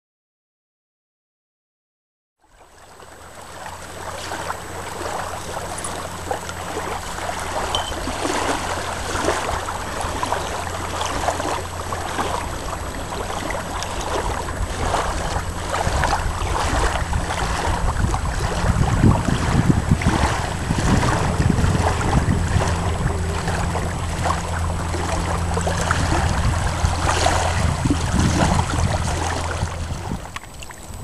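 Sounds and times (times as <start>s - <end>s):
small waves lapping: 2.4s - 31.0s
wind rumbling on microphone: 3.2s - 31.0s.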